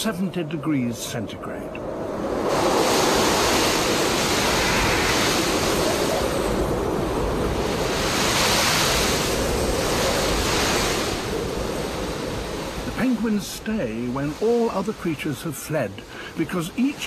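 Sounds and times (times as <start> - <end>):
strong gusting wind: 0.0 - 17.0.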